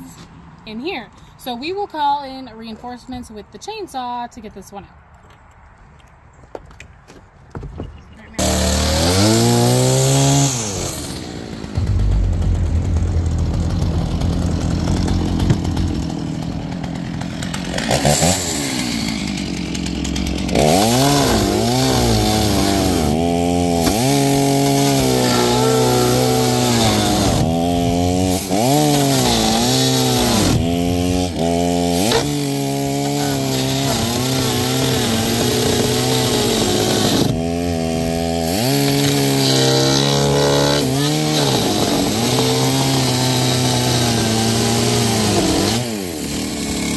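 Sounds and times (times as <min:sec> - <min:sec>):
chainsaw cutting: 0:08.4 - 0:46.9.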